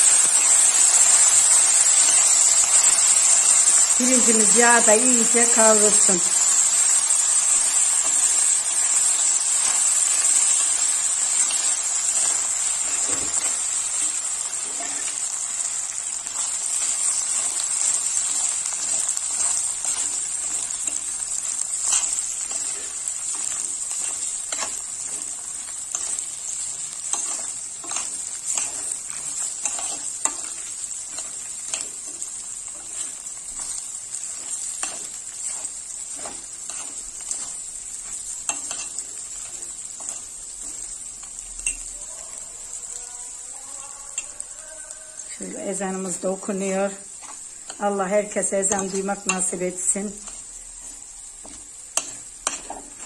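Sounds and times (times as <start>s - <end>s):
rice sizzling in hot oil: 0.0s - 53.0s.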